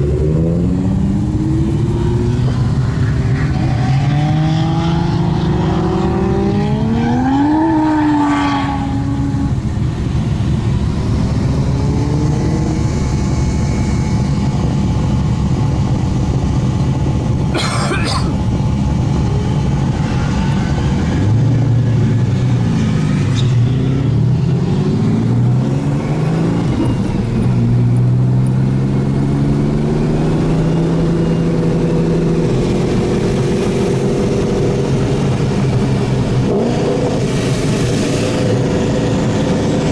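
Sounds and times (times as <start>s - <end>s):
car engine accelerating: 0.0s - 17.3s, 18.5s - 39.9s.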